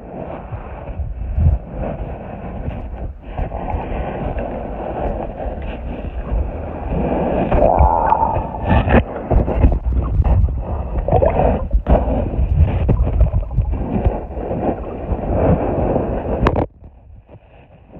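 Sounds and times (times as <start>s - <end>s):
muffled underwater river rushing: 0.0s - 17.9s.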